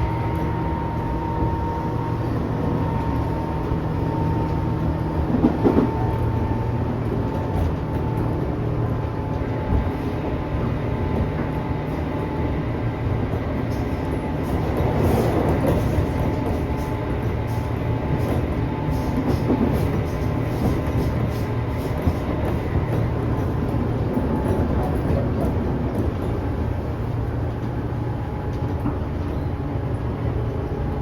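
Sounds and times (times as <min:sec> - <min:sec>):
electric train running rumble: 0:00.0 - 0:31.0
train clatter: 0:02.6 - 0:31.0.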